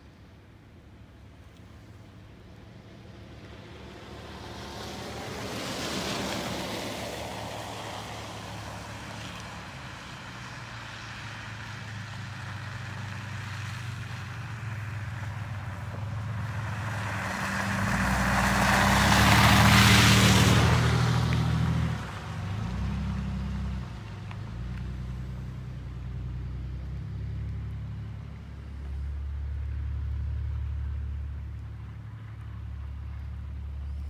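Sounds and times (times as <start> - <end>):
pickup truck engine hum: 0.4 - 34.0.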